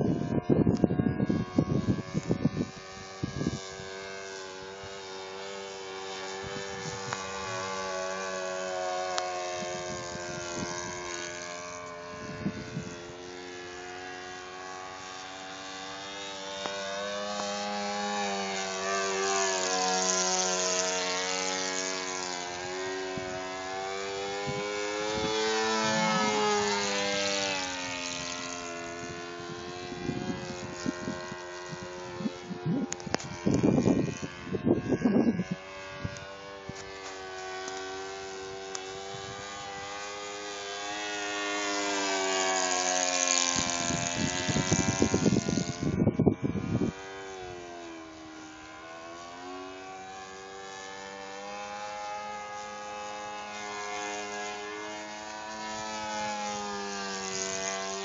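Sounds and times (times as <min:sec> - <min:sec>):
model plane engine in flight: 0:00.0 - 0:58.0.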